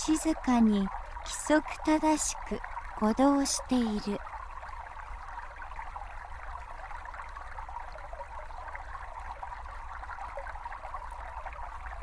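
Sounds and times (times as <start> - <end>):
brook babbling over stones: 0.0 - 12.0.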